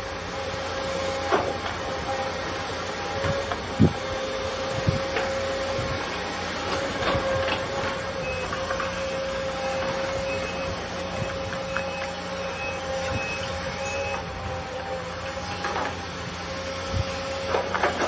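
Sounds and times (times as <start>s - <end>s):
excavator engine drone: 0.0s - 18.0s
hydraulic whine: 0.0s - 18.0s.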